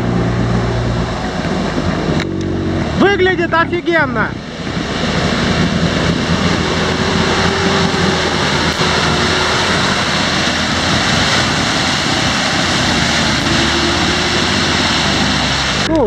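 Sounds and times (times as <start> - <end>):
diesel engine running under load: 0.0 - 16.0
water and mud splashing: 0.0 - 16.0.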